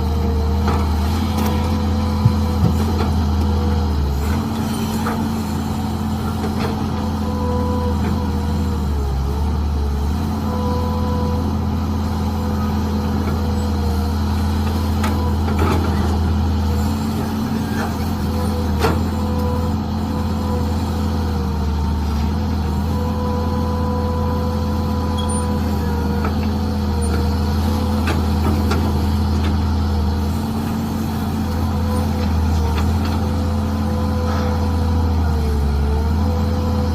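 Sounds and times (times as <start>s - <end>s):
excavator engine running: 0.0s - 36.9s.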